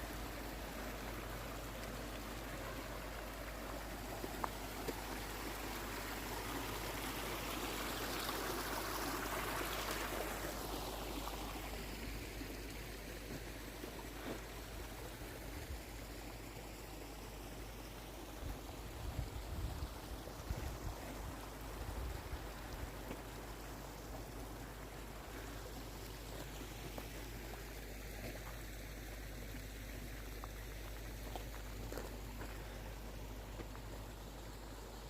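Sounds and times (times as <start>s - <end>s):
mountain stream rushing: 0.0s - 35.0s.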